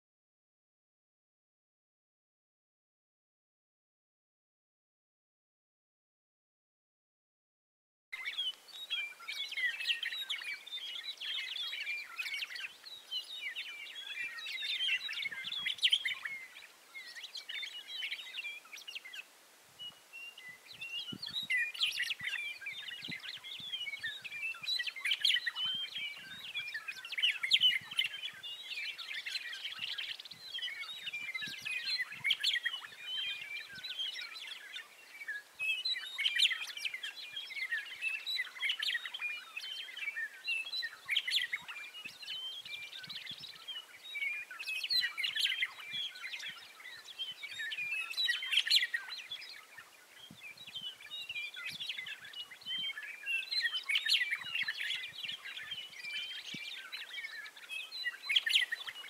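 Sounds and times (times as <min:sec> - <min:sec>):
birds chirping and chattering: 0:08.2 - 0:59.0.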